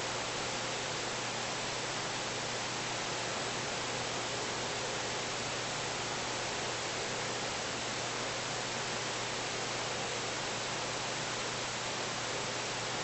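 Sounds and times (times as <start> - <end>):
steady static hiss: 0.0 - 13.0.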